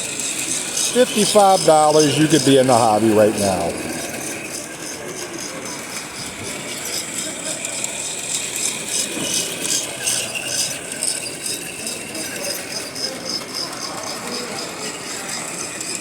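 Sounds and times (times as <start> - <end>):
toy train rattling and clicking: 0.0 - 16.0.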